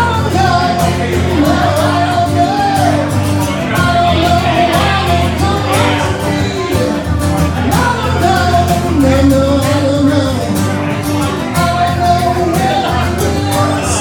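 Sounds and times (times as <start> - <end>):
acoustic guitar strumming: 0.0 - 14.0
man singing: 0.0 - 14.0.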